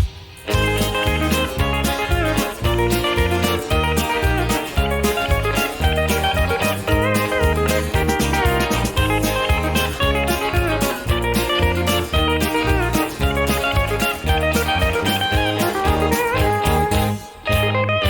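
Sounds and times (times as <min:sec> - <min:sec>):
country band music: 0:00.0 - 0:18.0
pedal steel guitar bending notes: 0:00.5 - 0:18.0.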